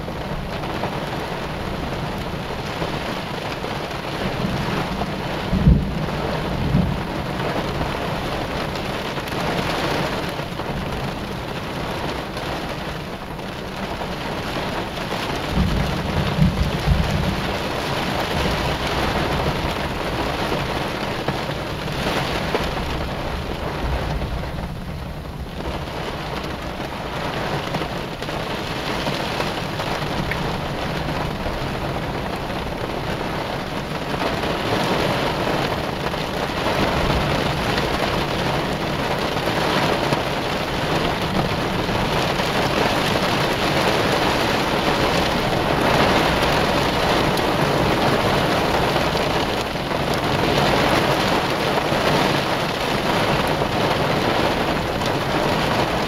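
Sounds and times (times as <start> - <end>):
low rumble of thunder: 0.0 - 52.3
heavy rain falling: 0.0 - 56.0.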